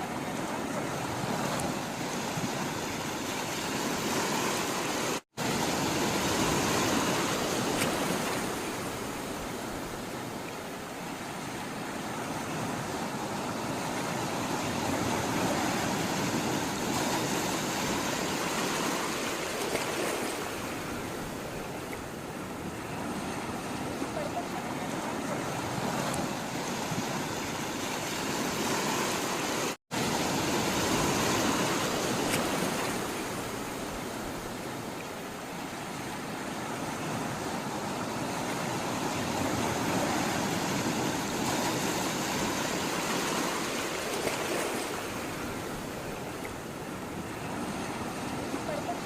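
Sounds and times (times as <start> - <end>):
sea waves rushing: 0.0 - 49.0.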